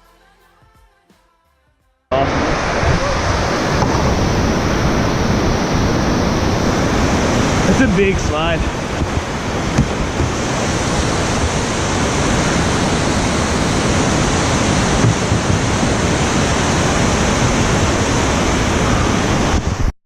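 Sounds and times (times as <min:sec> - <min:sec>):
whitewater rushing down creek: 0:02.2 - 0:19.9.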